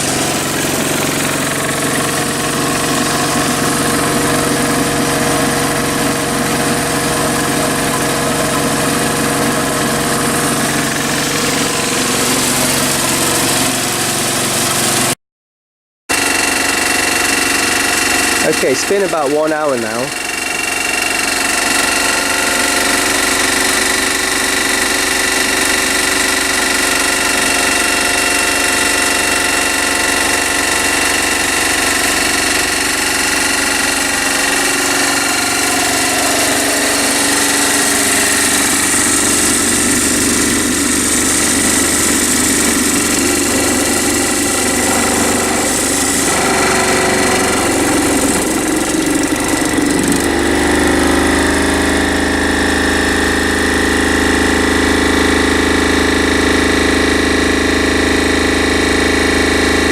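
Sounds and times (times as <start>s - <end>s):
vibrating tumbler motor running: 0.0s - 15.2s, 16.1s - 59.9s.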